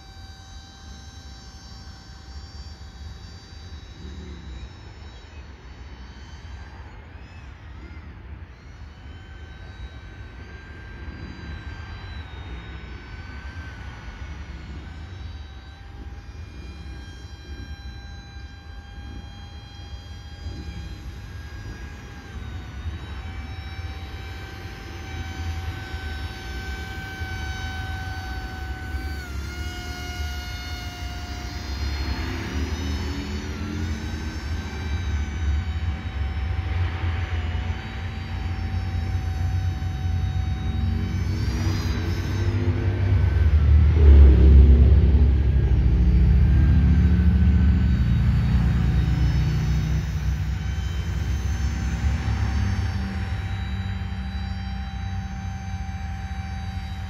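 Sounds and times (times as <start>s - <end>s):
model propeller motor whining: 0.0s - 57.0s.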